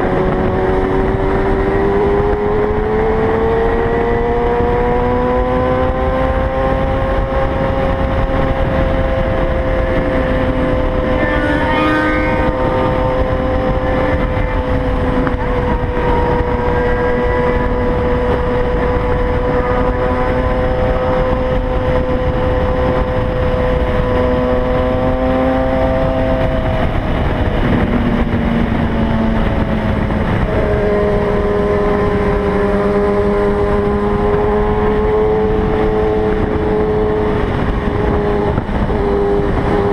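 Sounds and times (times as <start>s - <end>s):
heavy wind noise: 0.0s - 39.9s
motorcycle engine at high revs: 0.0s - 39.9s.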